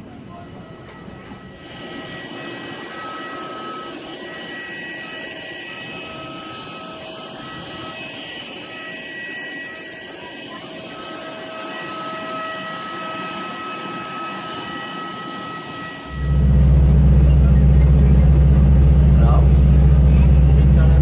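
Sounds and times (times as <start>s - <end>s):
jet airliner rushing and whining: 0.0s - 21.0s.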